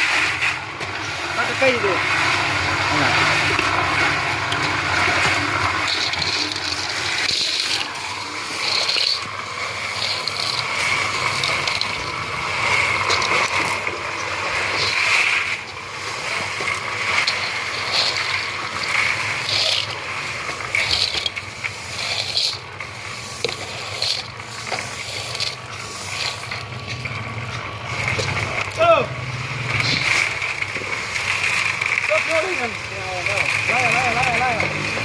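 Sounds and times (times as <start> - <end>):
machinery whine: 0.0 - 35.0
rattling and clanking machinery: 0.0 - 35.0.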